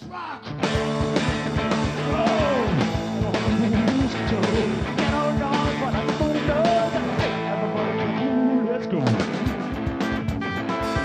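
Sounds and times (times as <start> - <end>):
distorted electric guitar: 0.0 - 11.0
live blues-rock band: 0.0 - 11.0.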